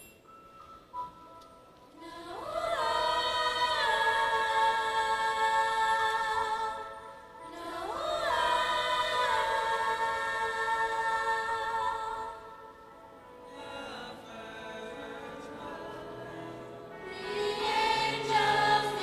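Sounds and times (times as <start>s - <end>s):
choir singing: 2.0s - 19.0s.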